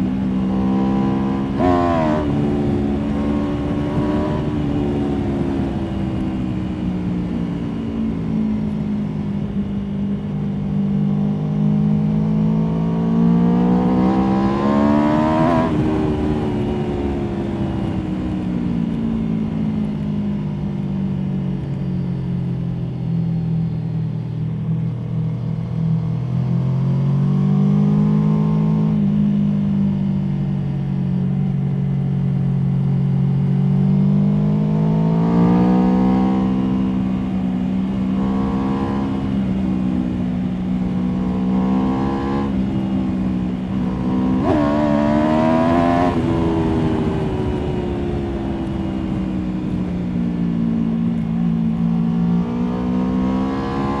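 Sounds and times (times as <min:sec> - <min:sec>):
motorcycle engine revving: 0:00.0 - 0:21.7, 0:23.6 - 0:54.0.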